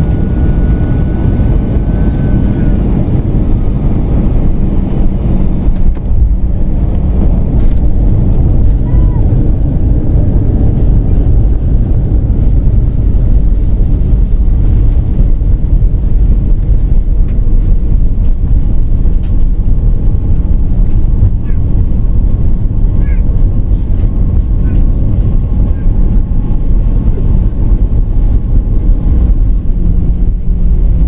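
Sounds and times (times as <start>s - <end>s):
aircraft cabin rumble: 0.0s - 31.0s.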